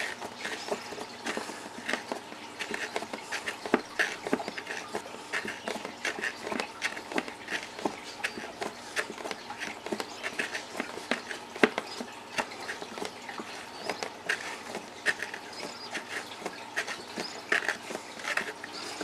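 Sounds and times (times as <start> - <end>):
hand reamer scraping plastic: 0.0 - 19.0.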